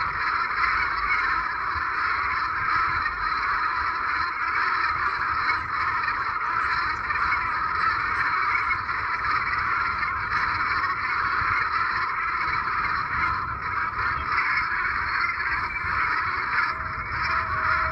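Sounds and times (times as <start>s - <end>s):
flock of geese honking: 0.0s - 17.9s.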